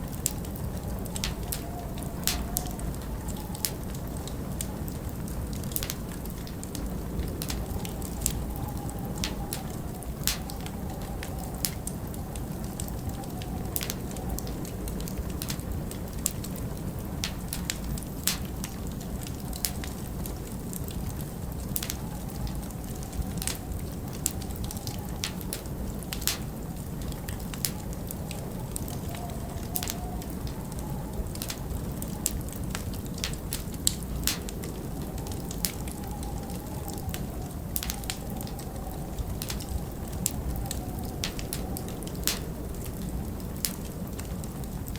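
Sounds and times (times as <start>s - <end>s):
log fire crackling: 0.0s - 44.9s
low rush of wind: 0.0s - 44.9s
sharp pops of fire: 0.0s - 44.9s.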